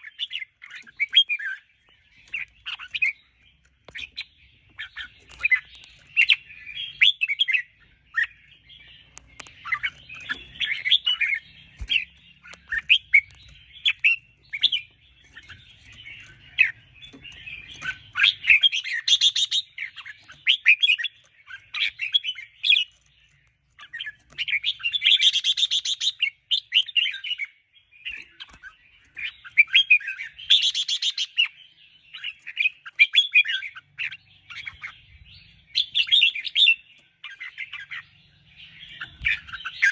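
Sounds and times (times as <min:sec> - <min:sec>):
bird singing chattering runs: 0:00.0 - 0:39.9.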